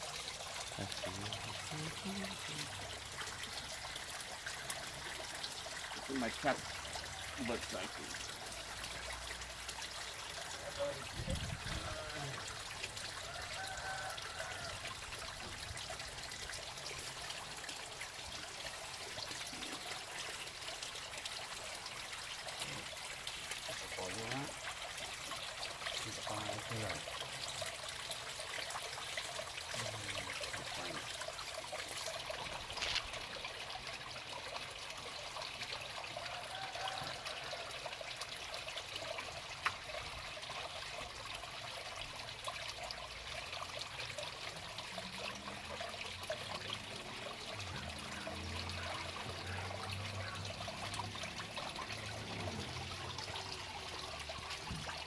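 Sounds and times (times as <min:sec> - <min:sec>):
water trickling over stones: 0:00.0 - 0:55.0.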